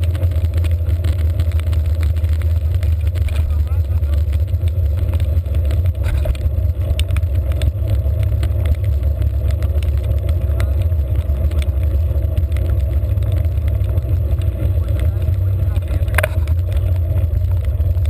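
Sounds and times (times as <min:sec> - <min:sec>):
road rumble: 0:00.0 - 0:18.0
small knocks and rattles: 0:00.0 - 0:18.0.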